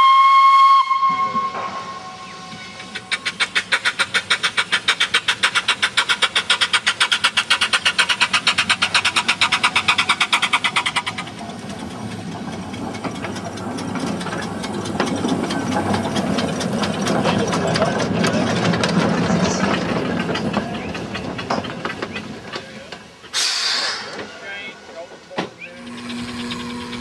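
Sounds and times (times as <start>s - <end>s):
steam locomotive exhaust beats: 0.0s - 27.0s
train rolling rumble: 0.0s - 27.0s
train clicks: 1.1s - 27.0s.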